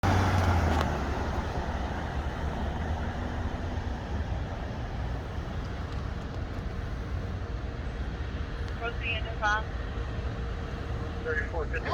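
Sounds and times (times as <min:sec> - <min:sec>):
diesel engine rumbling: 0:00.0 - 0:11.9.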